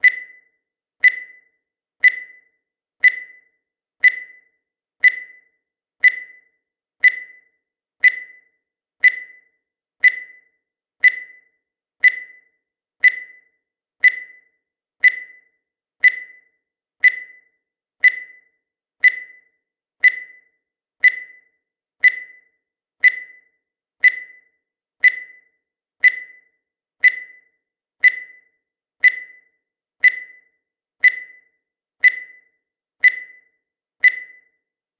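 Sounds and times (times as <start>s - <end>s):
high timer ticks: 0.0s - 34.7s.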